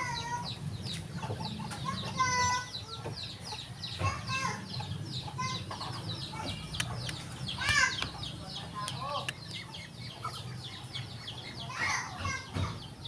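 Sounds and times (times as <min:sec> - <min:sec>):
chickens clucking: 0:00.0 - 0:13.0
high-pitched chick peeps: 0:00.0 - 0:13.0.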